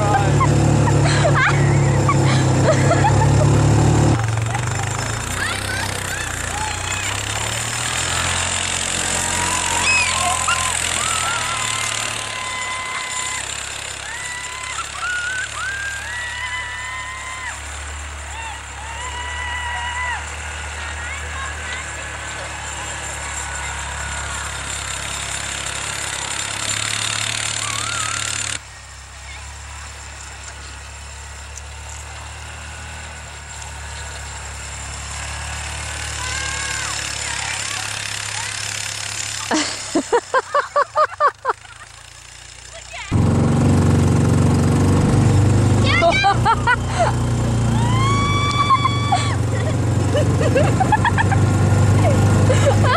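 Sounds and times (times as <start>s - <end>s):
children yelling: 0.0s - 31.0s, 33.5s - 43.2s, 45.7s - 52.9s
utility vehicle engine drone: 0.0s - 52.9s.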